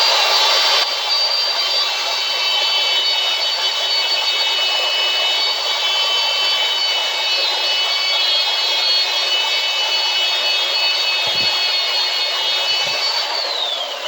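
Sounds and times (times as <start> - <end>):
electric drill whining: 0.0 - 14.0.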